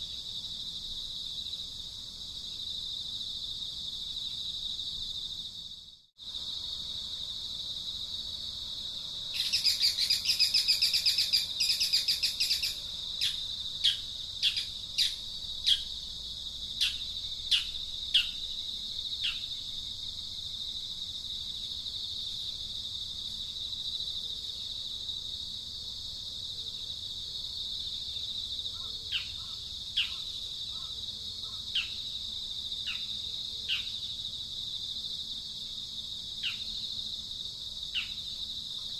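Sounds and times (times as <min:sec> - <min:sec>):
high insect drone: 0:00.0 - 0:38.9.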